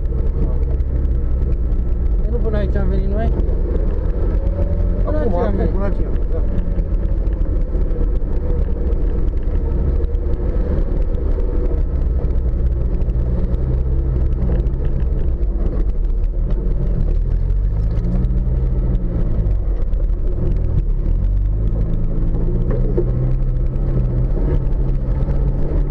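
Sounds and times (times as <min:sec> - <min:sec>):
off-road vehicle engine running: 0:00.0 - 0:25.9.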